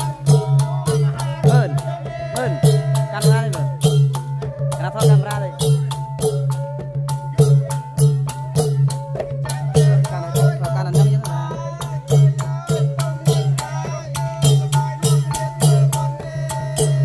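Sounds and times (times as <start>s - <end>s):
hand drums beating rhythm: 0.0s - 17.0s
sharp percussion clicks: 0.0s - 17.0s.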